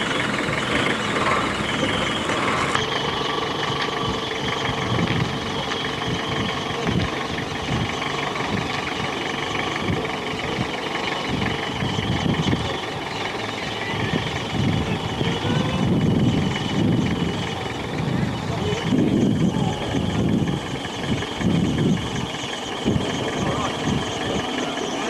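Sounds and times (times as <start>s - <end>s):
boat engine running: 0.0s - 25.0s
low rumbling: 0.0s - 25.0s.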